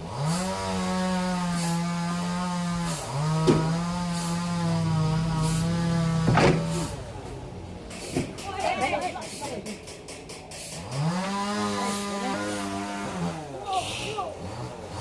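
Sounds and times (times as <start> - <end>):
power saw humming: 0.0 - 8.6, 9.2 - 15.0.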